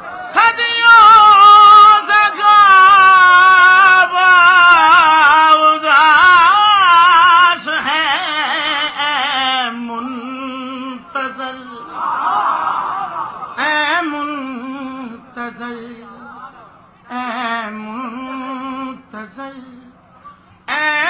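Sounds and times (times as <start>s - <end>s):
man chanting through a microphone: 0.3s - 11.9s, 13.6s - 21.0s.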